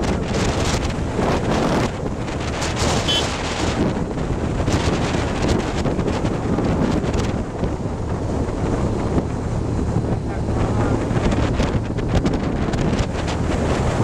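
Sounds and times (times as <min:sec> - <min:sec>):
motorcycle engine drone: 0:00.0 - 0:14.0
wind rushing over microphone: 0:00.0 - 0:14.0.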